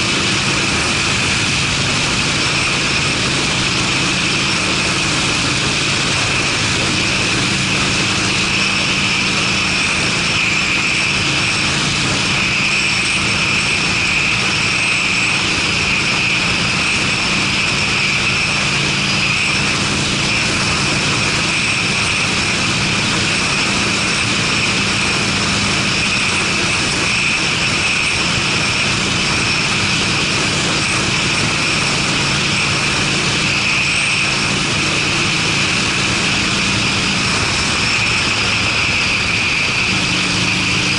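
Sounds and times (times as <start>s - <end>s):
motorcycle exhaust drone: 0.0s - 40.9s
rushing noise: 0.0s - 40.9s.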